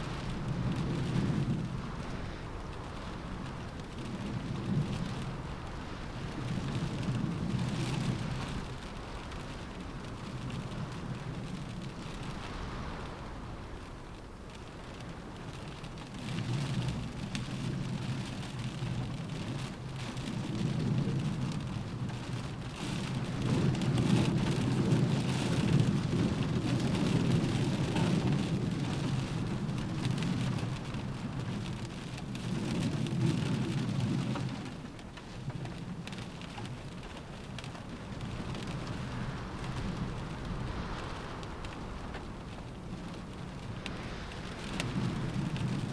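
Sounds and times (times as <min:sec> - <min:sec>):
low rumble of wind or thunder: 0:00.0 - 0:45.9
rain pattering on a window: 0:00.0 - 0:45.9.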